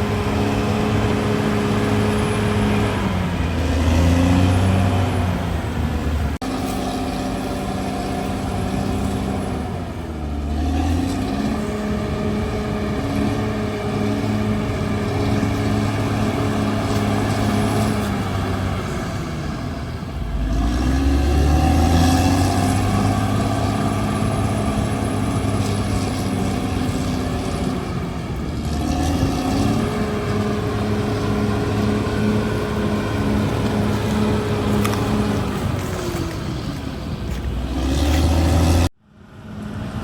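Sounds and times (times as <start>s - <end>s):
bulldozer diesel engine working: 0.0s - 40.0s.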